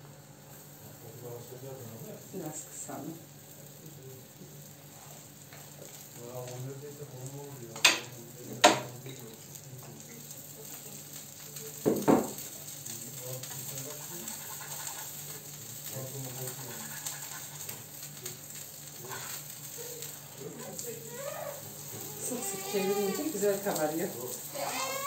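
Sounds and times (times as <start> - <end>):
bread sizzling in a pan: 0.0 - 25.0.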